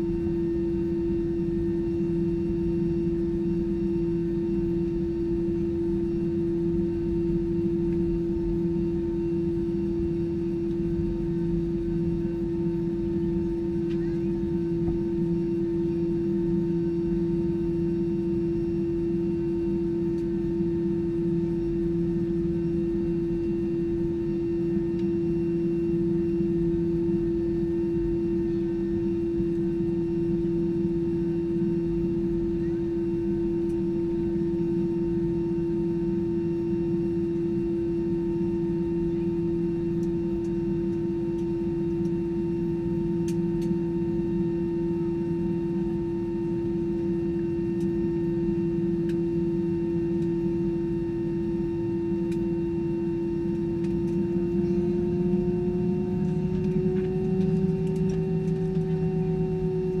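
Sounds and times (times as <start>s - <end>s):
airplane cabin drone: 0.0s - 60.0s.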